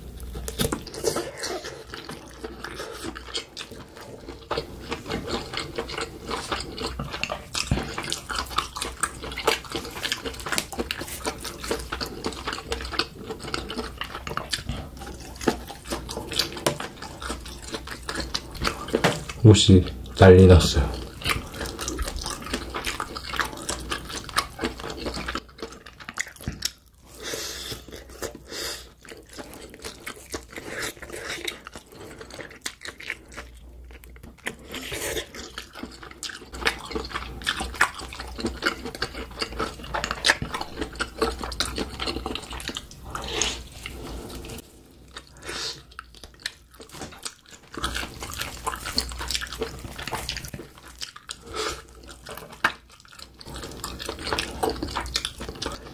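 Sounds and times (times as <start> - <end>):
wet chewing with smacks: 0.0 - 55.9.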